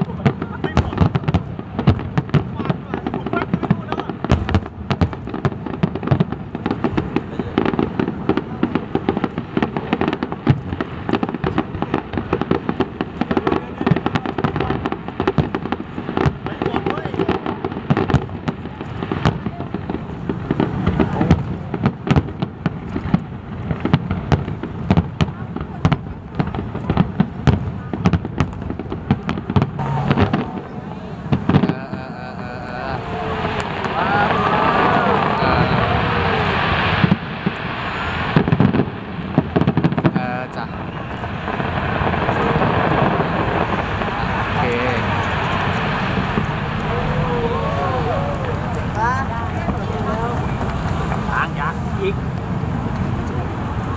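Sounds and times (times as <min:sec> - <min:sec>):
fireworks bangs and crackling: 0:00.0 - 0:53.9.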